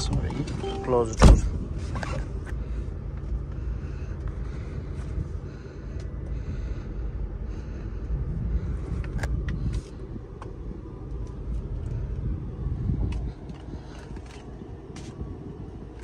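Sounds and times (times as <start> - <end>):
car engine idling rumble: 0.0 - 16.0.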